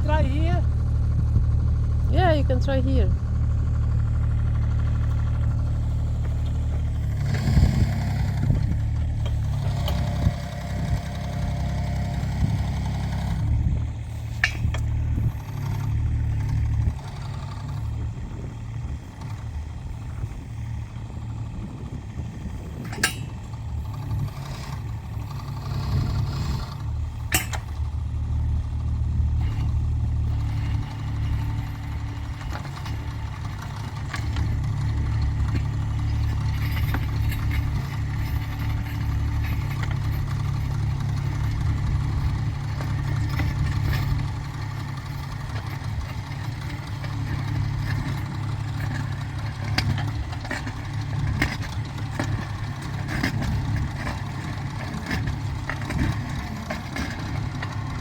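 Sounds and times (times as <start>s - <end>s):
diesel engine running: 0.0s - 58.0s
hydraulic auger drilling: 1.4s - 58.0s.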